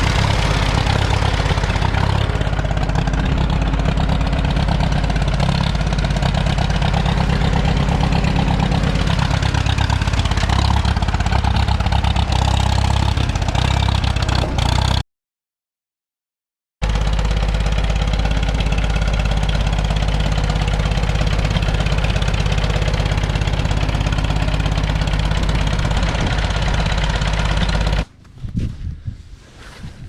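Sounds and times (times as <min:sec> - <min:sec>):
engine idling: 0:00.0 - 0:15.0, 0:16.8 - 0:28.1.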